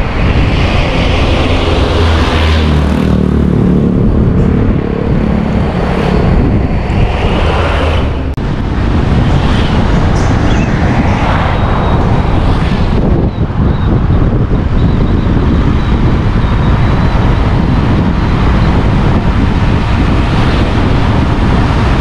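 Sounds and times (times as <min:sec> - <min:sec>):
truck engine hum: 0:00.0 - 0:22.0
wind and road noise: 0:00.0 - 0:22.0.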